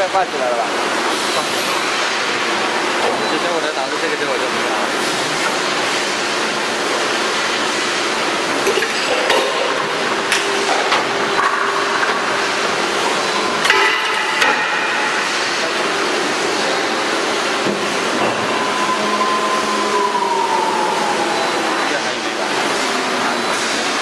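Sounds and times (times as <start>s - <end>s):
injection moulding machine running: 0.0s - 24.0s
steady machine whine: 0.0s - 24.0s.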